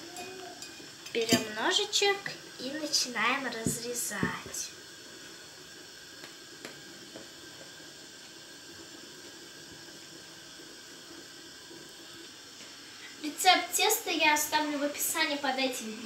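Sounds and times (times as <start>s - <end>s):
faint room tone hiss: 0.0s - 16.0s.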